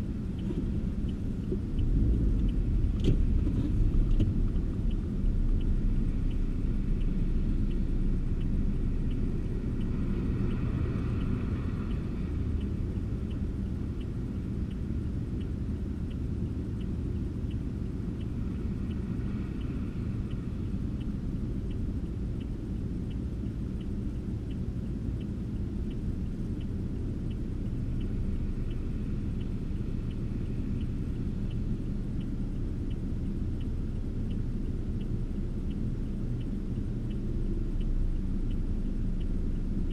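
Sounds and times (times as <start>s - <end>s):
car engine and road noise: 0.0s - 39.9s
light ticking: 0.0s - 39.9s.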